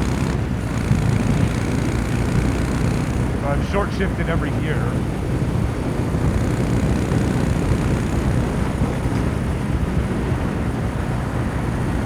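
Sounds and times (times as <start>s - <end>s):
motorcycle engine lugging: 0.0s - 12.0s.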